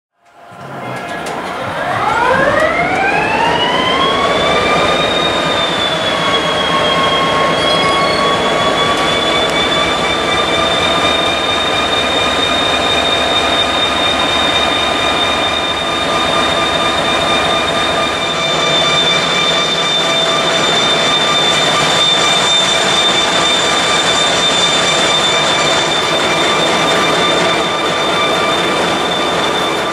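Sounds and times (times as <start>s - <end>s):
diesel locomotive engine starting: 0.2s - 29.9s.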